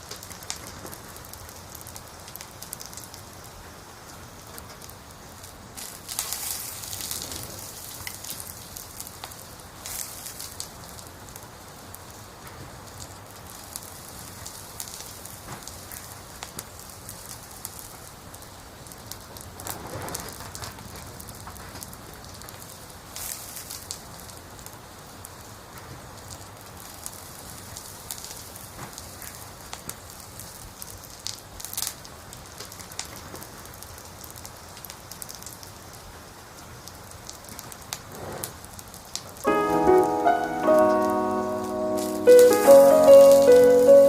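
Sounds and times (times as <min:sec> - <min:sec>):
firewood crackling and popping: 0:00.0 - 0:38.1.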